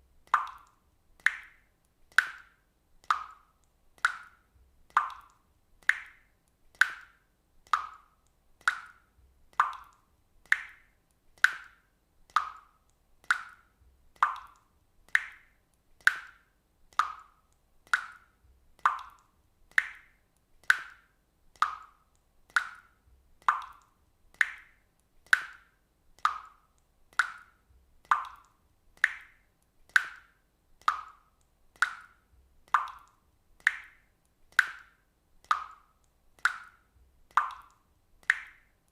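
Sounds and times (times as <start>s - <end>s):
water drops plinking into water: 0.2s - 38.9s.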